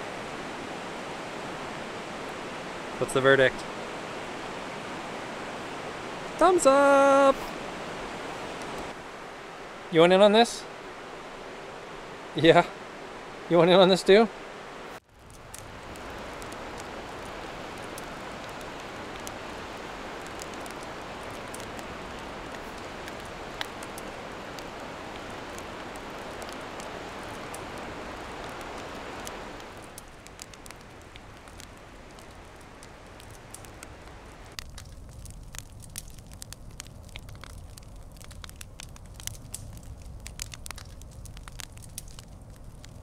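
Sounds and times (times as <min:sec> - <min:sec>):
campfire crackling and popping: 0:00.0 - 0:12.4, 0:15.0 - 0:43.0
river rushing: 0:00.0 - 0:34.6.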